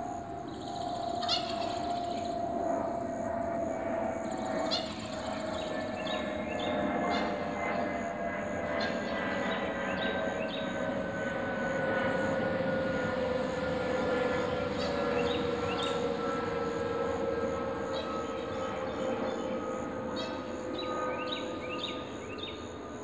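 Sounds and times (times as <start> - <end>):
distant engine drone: 0.0 - 23.0.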